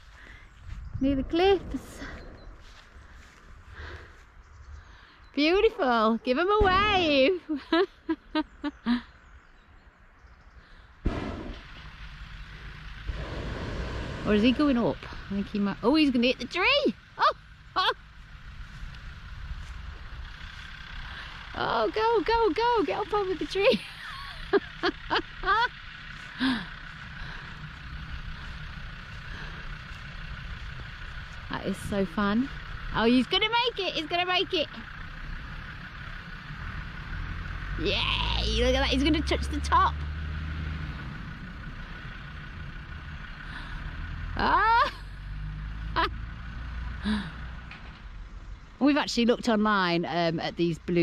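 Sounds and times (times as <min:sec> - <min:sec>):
outdoor rumble and hiss: 0:09.2 - 0:51.0.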